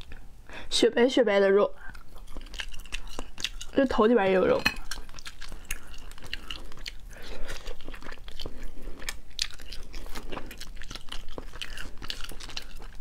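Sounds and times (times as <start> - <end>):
chewing: 1.8 - 13.0.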